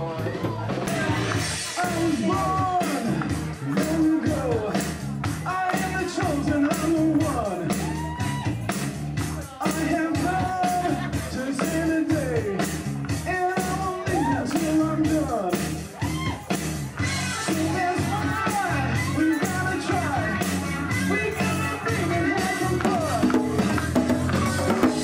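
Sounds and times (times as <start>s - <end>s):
man singing: 0.0s - 8.0s, 9.3s - 15.8s, 17.3s - 25.0s
drum beat: 0.0s - 25.0s
guitar: 0.0s - 25.0s.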